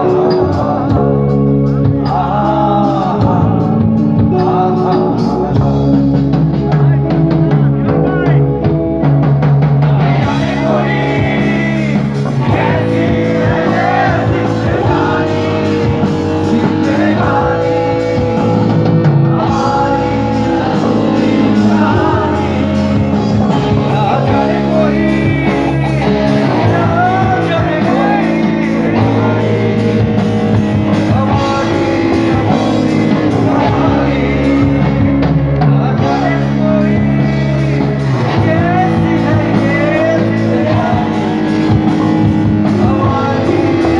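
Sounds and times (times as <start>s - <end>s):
live rock band playing: 0.0s - 43.9s
man singing: 0.0s - 43.9s.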